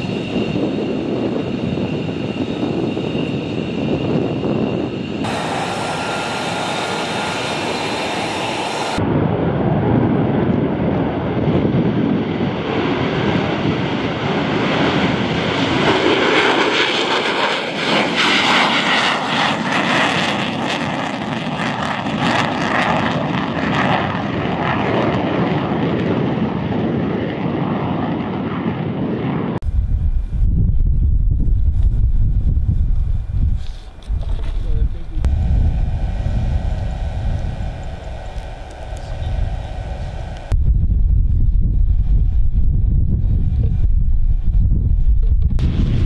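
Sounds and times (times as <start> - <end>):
jet engine roaring at takeoff: 0.0 - 30.4, 31.8 - 44.6, 45.2 - 46.0.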